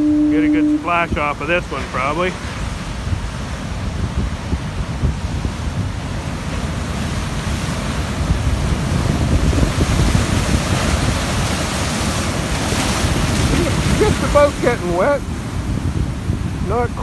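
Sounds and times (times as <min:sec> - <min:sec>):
ocean surf breaking on rocks: 0:00.0 - 0:17.0
wind buffeting microphone: 0:00.0 - 0:17.0
foaming water washing over rocks: 0:00.9 - 0:17.0.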